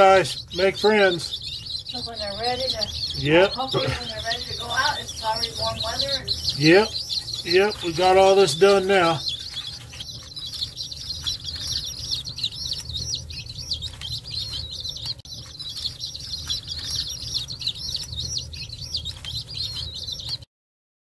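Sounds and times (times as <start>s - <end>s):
steady low hum: 0.0s - 20.3s
baby chicks peeping: 0.0s - 20.5s.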